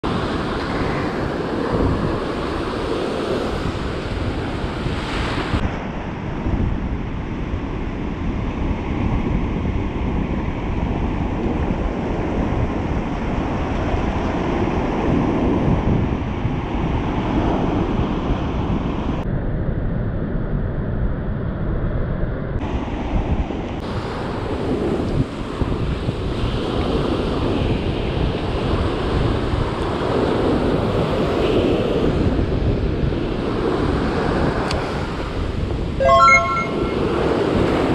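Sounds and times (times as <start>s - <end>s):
wind buffeting microphone: 0.0s - 19.2s, 22.6s - 36.0s.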